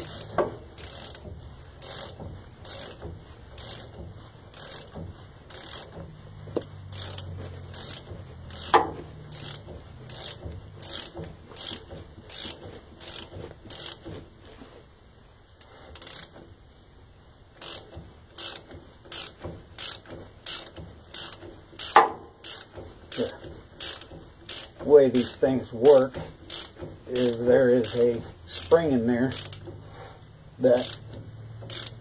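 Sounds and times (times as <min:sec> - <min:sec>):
ratchet wrench clicking: 0:00.0 - 0:14.2, 0:15.6 - 0:16.5, 0:17.6 - 0:29.9, 0:30.7 - 0:32.0.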